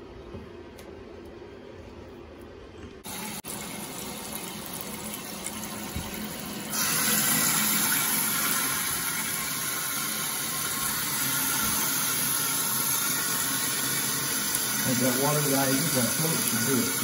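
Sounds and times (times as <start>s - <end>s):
water rushing into toilet cistern: 3.1s - 17.0s.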